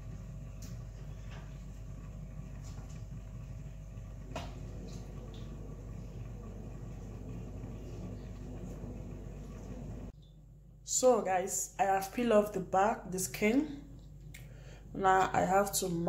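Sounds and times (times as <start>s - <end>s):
kitchen background hum: 0.0s - 16.0s.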